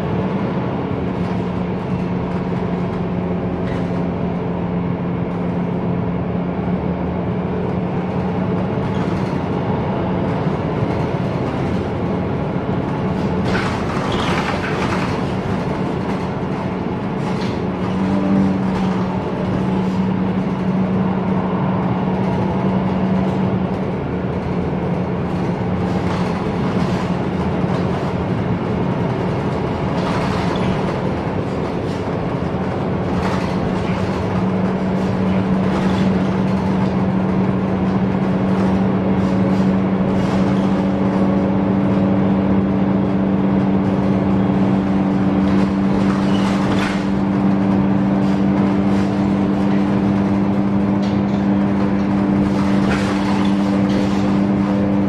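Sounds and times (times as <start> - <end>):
bus engine drone: 0.0 - 55.0
road and tyre noise: 0.0 - 55.0.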